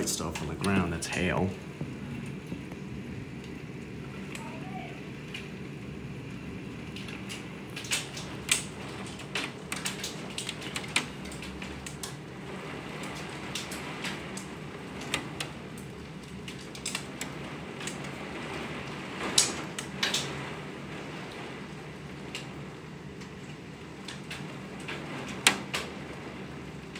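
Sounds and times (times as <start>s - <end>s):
hailstones ticking on window: 0.0s - 26.9s
heavy rain: 0.0s - 26.9s.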